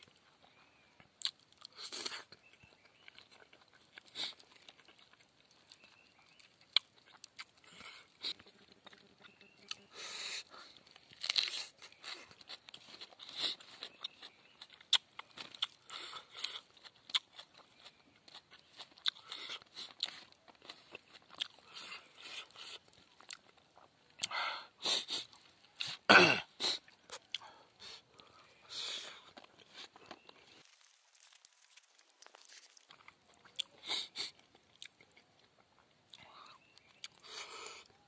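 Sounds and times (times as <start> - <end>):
chewing and crunching food: 0.0 - 38.0.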